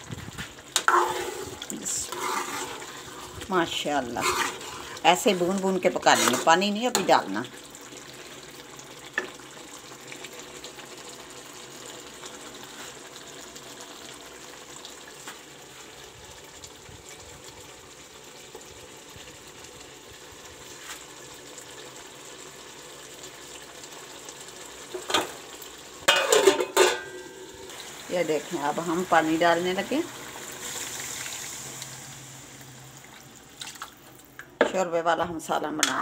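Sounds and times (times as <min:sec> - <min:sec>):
curry bubbling in pot: 0:00.0 - 0:34.6.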